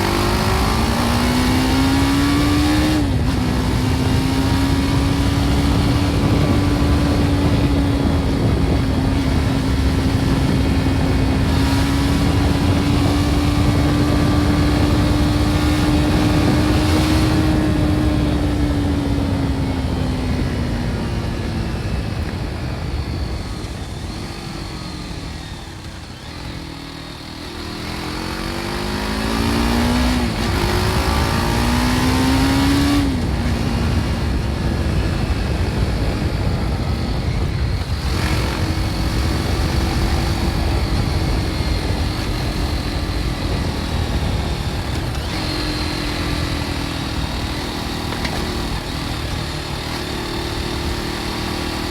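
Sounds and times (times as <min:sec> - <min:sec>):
motorcycle engine running: 0:00.0 - 0:51.9
wind noise: 0:00.0 - 0:51.9.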